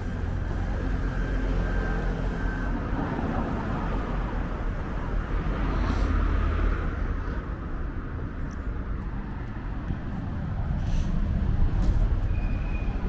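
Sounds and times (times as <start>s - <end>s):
road noise rumble: 0.0s - 13.0s.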